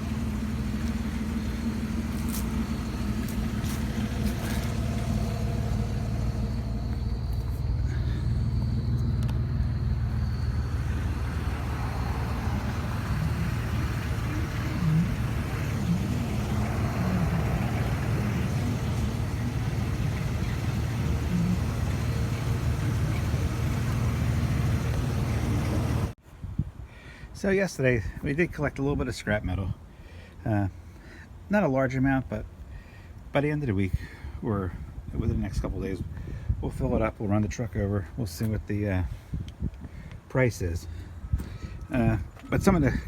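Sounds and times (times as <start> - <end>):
vehicle engine and road rumble: 0.0 - 43.0.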